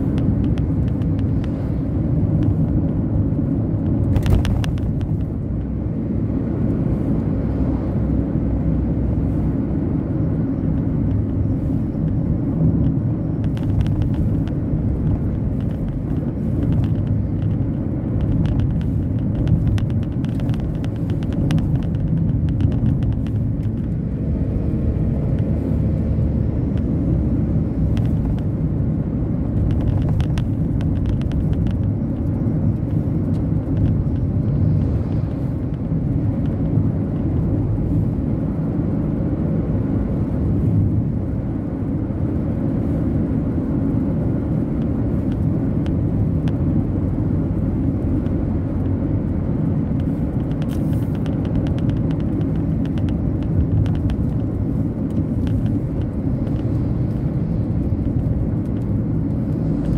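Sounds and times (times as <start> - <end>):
car driving inside cabin: 0.0 - 59.9.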